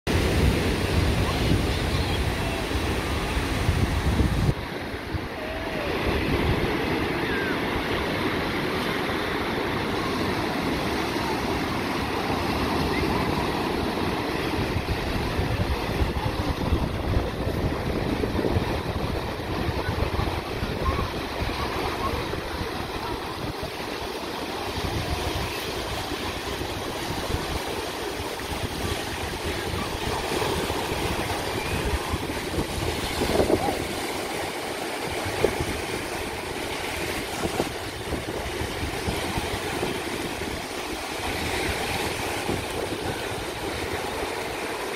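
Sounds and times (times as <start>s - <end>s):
sea waves washing on shore: 0.1s - 44.9s
wind rumbling on microphone: 0.1s - 44.9s
faint voices: 0.3s - 44.9s.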